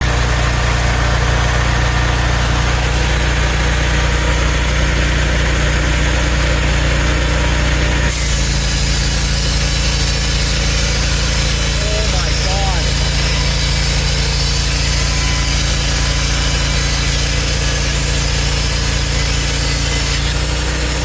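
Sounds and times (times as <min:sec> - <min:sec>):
sawmill engine running: 0:00.0 - 0:21.0.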